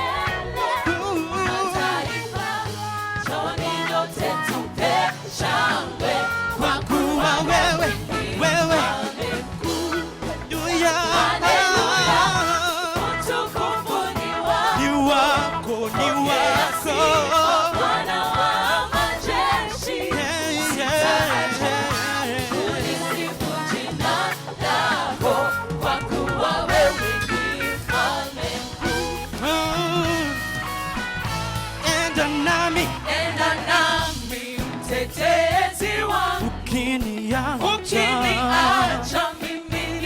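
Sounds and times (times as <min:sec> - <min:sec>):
band with bass and beat: 0:00.0 - 0:40.0
gospel singing voices: 0:00.0 - 0:40.0.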